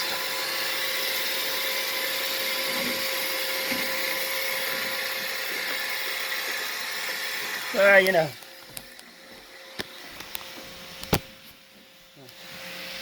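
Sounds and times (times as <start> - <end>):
robot vacuum whirring: 0.0 - 11.6.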